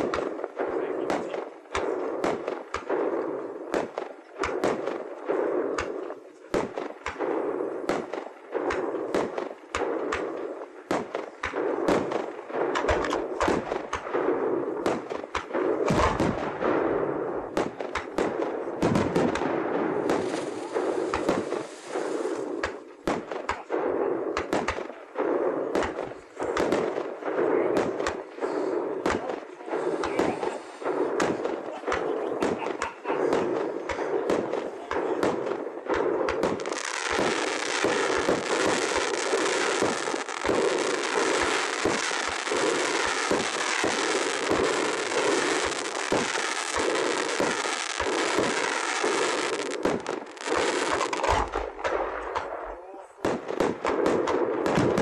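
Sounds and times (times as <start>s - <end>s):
fireworks bangs and cracks: 0.0s - 55.0s.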